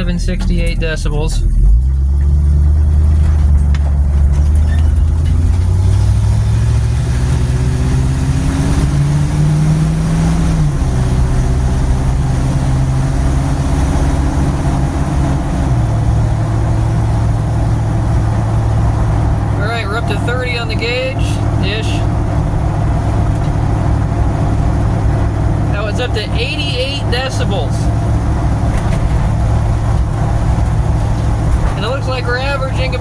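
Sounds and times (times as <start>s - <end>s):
car engine accelerating: 0.0s - 33.0s
road noise: 0.0s - 33.0s.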